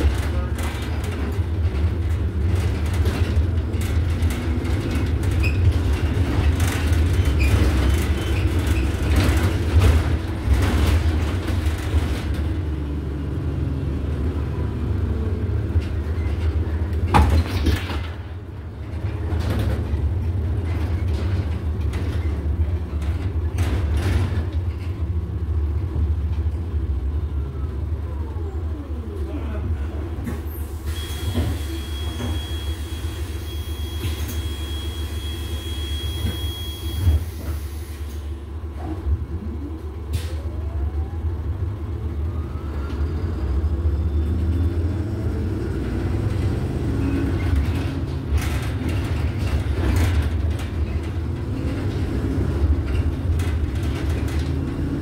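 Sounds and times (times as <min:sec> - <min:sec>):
bus rumbling on the move: 0:00.0 - 0:55.0.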